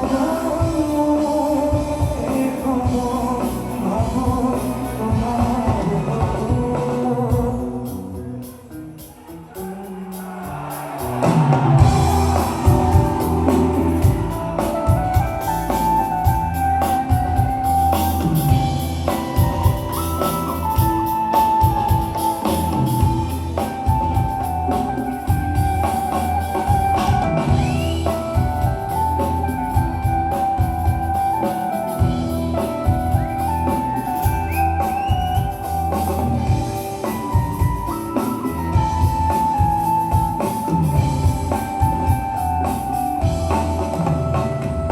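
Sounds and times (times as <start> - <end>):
melodic lead line: 0.0 - 7.7, 10.6 - 44.9
drum kit: 0.0 - 44.9
guitar: 0.0 - 44.9.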